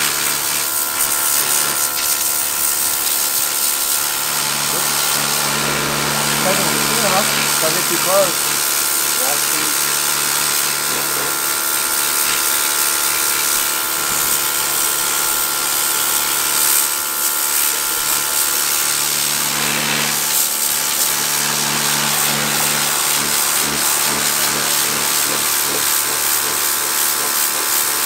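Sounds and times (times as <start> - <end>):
pressure washer jet hissing: 0.0 - 28.0.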